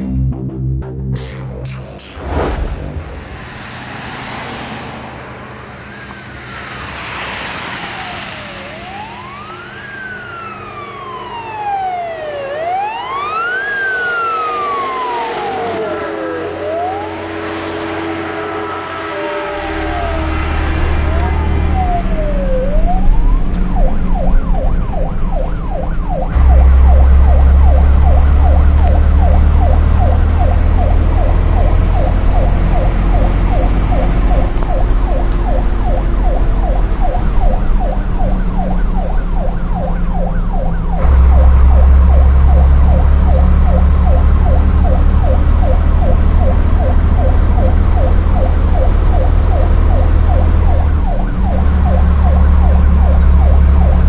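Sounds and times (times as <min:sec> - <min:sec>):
truck engine rumble: 0:00.0 - 0:54.0
fire engine siren yelping: 0:06.4 - 0:54.0.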